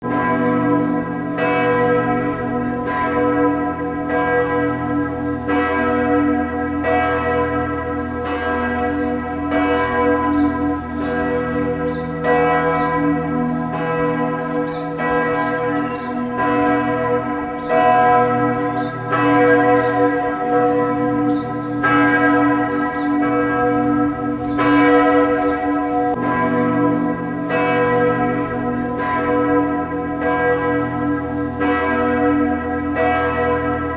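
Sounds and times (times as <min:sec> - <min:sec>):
church bells pealing: 0:00.0 - 0:33.9.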